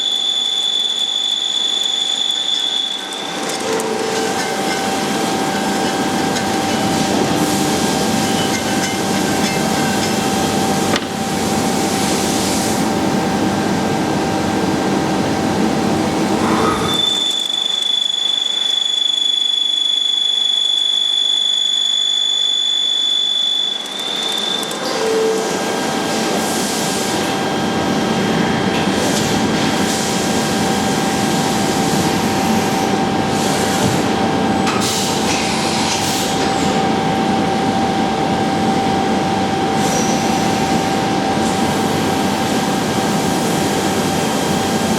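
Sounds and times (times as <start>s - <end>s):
machine whine: 0.0s - 44.9s.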